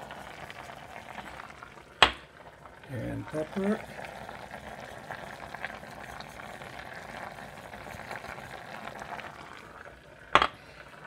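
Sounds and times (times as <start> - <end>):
food bubbling and crackling: 0.0 - 11.0.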